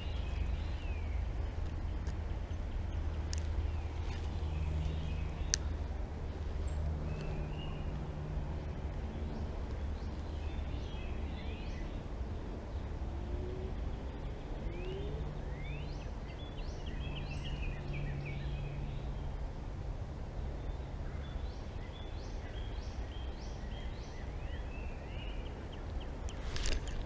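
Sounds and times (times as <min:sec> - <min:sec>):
low outdoor rush: 0:00.0 - 0:27.0
songbird singing: 0:00.0 - 0:27.0.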